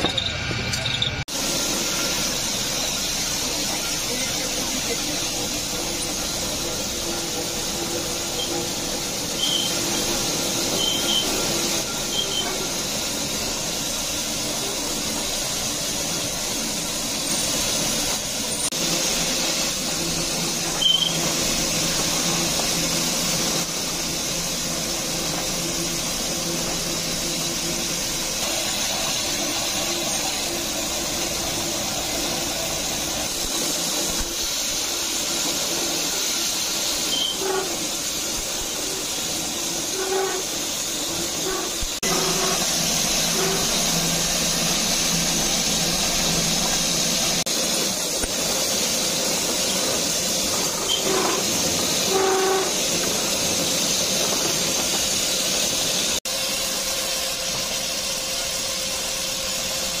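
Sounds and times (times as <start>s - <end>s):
machinery running with hiss: 0.0s - 60.0s.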